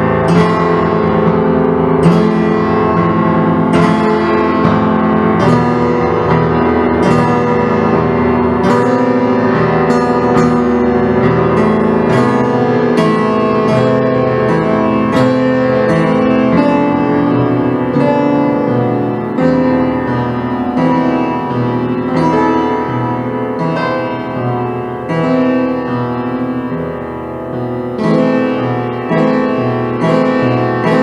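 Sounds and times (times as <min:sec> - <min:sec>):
keyboard playing sustained chords: 0:00.0 - 0:31.0.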